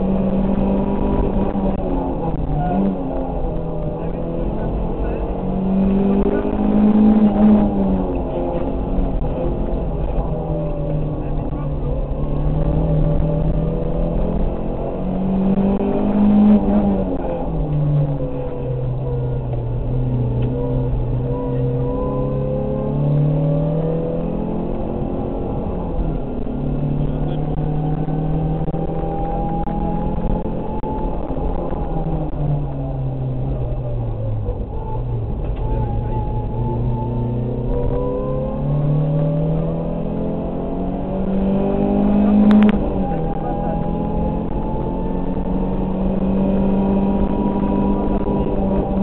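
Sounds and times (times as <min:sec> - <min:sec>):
rally car engine revving: 0:00.0 - 0:49.0
road noise: 0:00.0 - 0:49.0.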